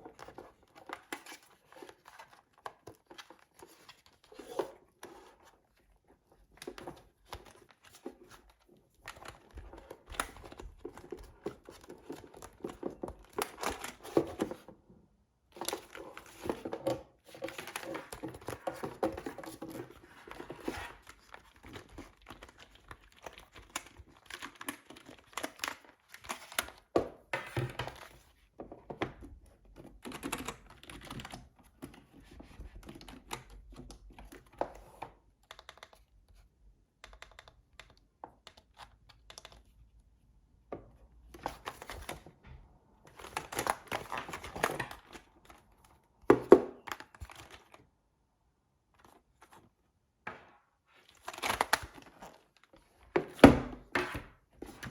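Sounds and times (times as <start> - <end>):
plastic and cardboard crinkling: 0.0 - 35.2, 43.1 - 47.9, 50.8 - 54.9.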